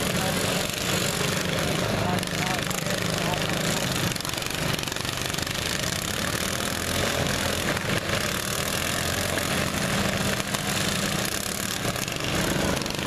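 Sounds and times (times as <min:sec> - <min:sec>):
lawn mower engines running: 0:00.0 - 0:13.0.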